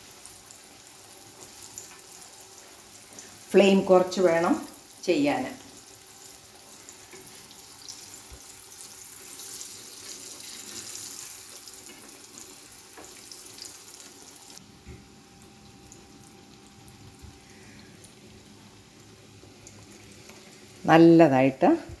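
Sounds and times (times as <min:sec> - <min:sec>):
food sizzling in hot oil: 0:00.0 - 0:21.6.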